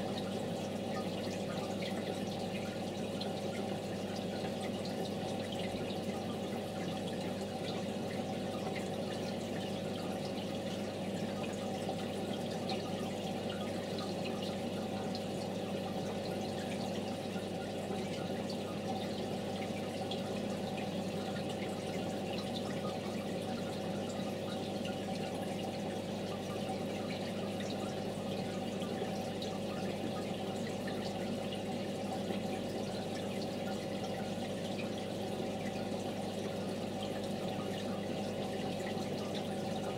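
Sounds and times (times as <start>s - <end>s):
water bubbling and trickling: 0.0s - 39.9s.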